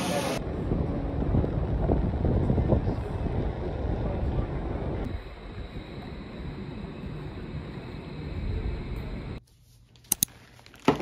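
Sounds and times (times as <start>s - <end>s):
outdoor street background: 0.0s - 11.0s
wind rumbling on microphone: 0.4s - 9.4s.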